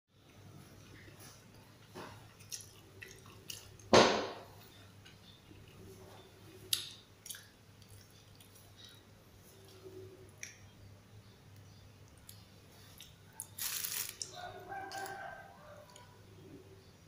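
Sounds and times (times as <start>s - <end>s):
faint low hum: 0.2s - 17.0s.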